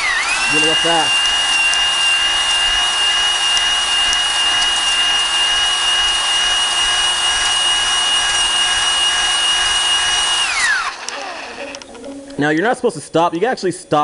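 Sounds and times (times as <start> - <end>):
electric drill whining: 0.0 - 12.3.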